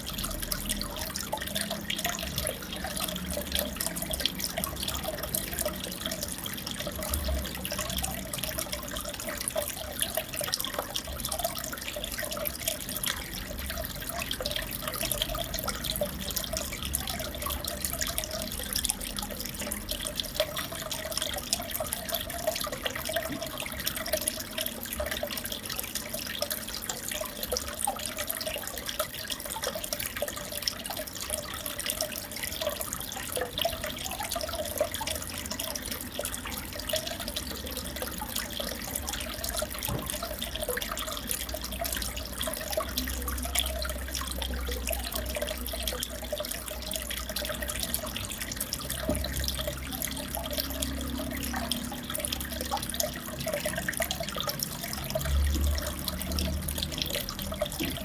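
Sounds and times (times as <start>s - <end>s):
aquarium water trickling and bubbling: 0.0s - 58.0s.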